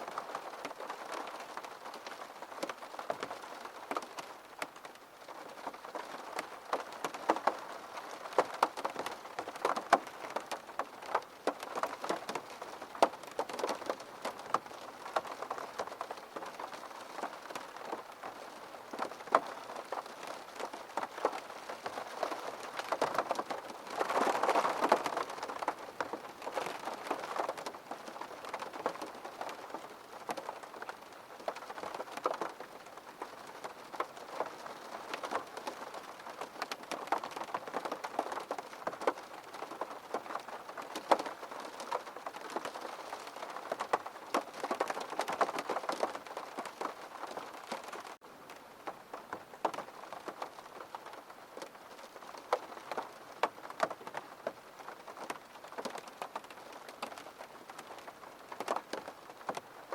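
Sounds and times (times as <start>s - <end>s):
rain pattering on window glass: 0.0s - 59.9s.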